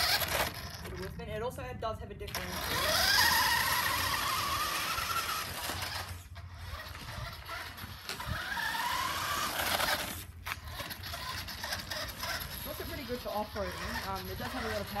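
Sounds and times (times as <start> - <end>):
toy car electric motor whining: 0.0 - 1.3, 2.3 - 15.0.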